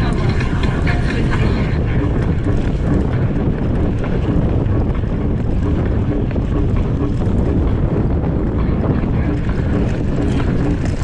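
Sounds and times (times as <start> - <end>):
low rumble: 0.0 - 11.0
wind buffeting microphone: 0.0 - 11.0.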